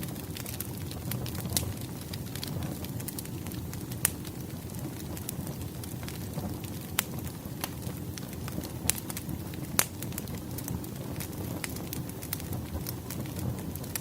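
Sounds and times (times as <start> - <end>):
campfire crackling: 0.0 - 14.0
wood popping in fire: 0.0 - 14.0.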